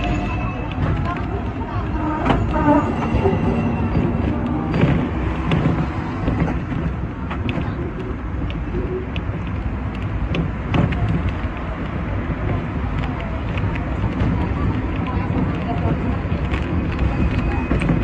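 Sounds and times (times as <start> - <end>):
tram wheels and motor rumbling: 0.0 - 18.0
wheels clicking over rail joints: 0.0 - 18.0.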